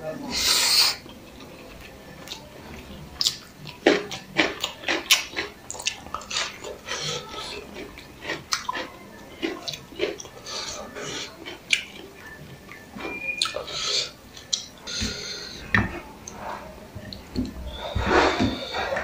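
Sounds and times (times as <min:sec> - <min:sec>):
person chewing food: 0:00.3 - 0:19.0.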